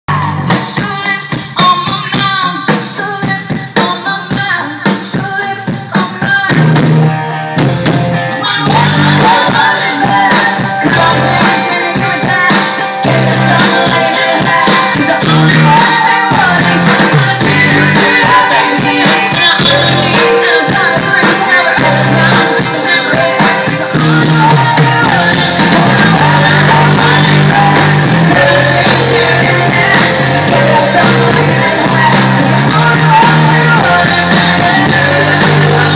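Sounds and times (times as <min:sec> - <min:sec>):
drums: 0:00.0 - 0:35.9
person singing: 0:00.1 - 0:07.0, 0:08.2 - 0:35.9
live band music: 0:00.1 - 0:35.9.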